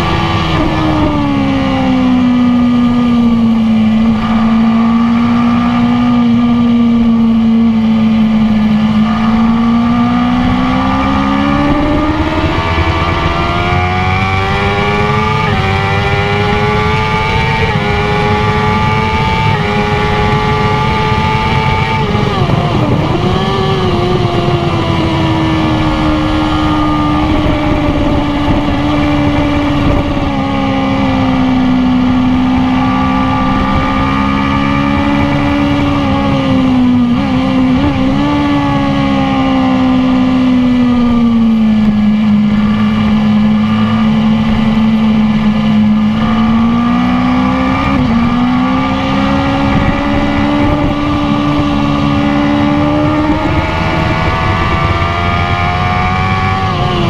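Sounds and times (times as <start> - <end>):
motorcycle engine at full throttle: 0.0 - 57.0
wind rush: 0.0 - 57.0.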